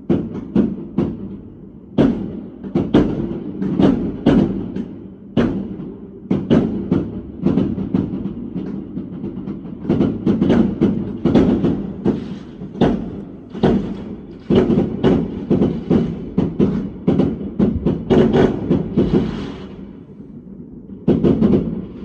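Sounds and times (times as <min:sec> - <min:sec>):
fireworks bangs and crackles: 0:00.0 - 0:22.0
low rumble of explosions: 0:00.0 - 0:22.0.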